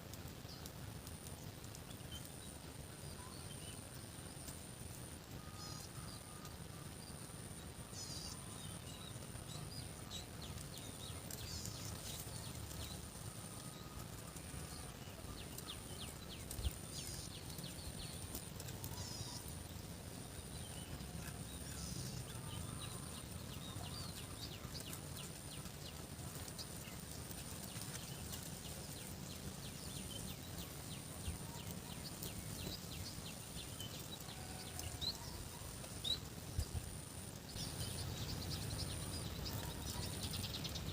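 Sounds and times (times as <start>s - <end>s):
birds chirping: 0.2s - 40.9s.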